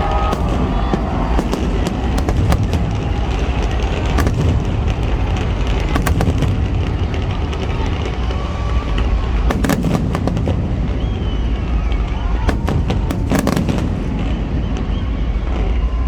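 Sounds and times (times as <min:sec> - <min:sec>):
crowd talking: 0:00.0 - 0:16.0
fireworks bangs: 0:00.0 - 0:16.0.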